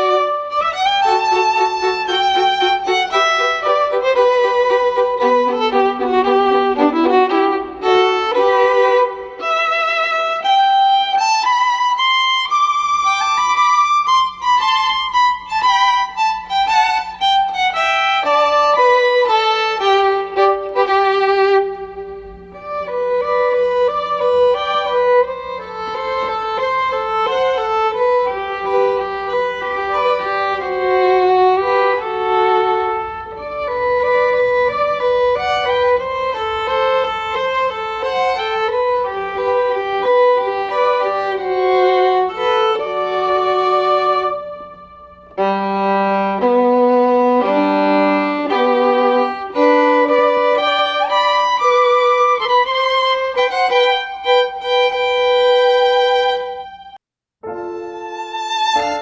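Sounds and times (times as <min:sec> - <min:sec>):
solo violin melody: 0:00.0 - 0:59.0.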